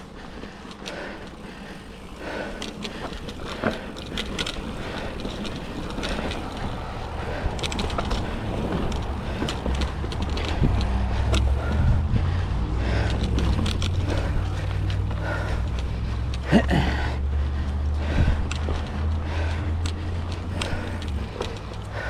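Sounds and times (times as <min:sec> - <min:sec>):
bike chain and frame rattling: 0:00.0 - 0:22.0
rumble of tyres and wind: 0:00.0 - 0:22.0.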